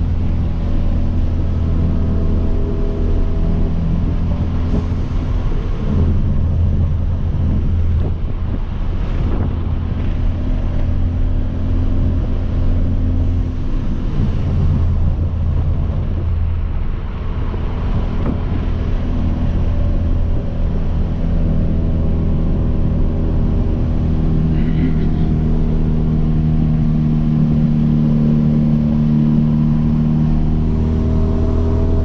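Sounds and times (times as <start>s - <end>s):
car engine droning: 0.0s - 32.0s.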